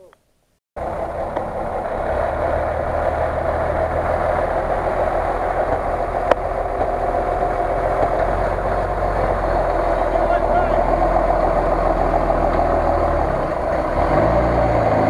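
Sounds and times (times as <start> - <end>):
truck engine running: 0.8 - 15.0.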